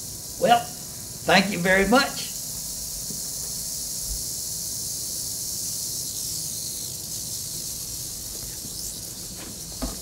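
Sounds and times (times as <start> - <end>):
rattlesnake rattle buzzing: 0.0 - 10.0.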